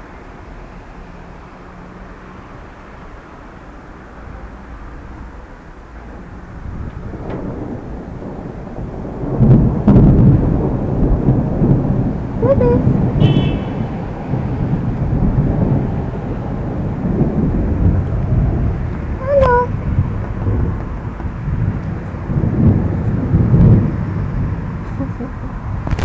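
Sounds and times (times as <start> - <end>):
thunder rumbling: 4.2 - 26.0.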